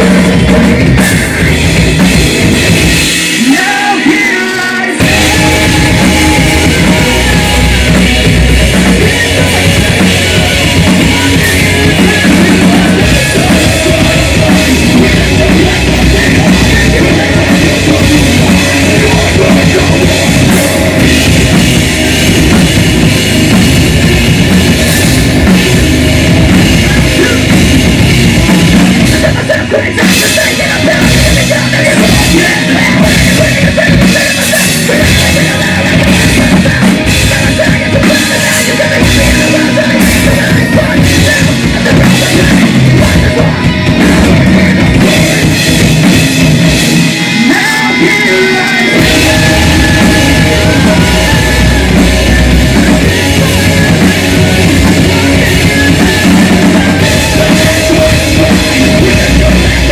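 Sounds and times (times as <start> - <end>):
distorted electric guitars: 0.0 - 59.9
live rock band playing: 0.0 - 59.9
singer singing: 0.0 - 59.9.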